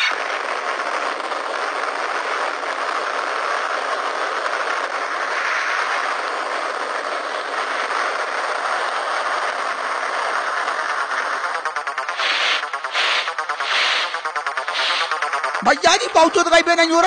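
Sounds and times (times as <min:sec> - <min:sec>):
mechanical rushing noise: 0:00.0 - 0:17.0.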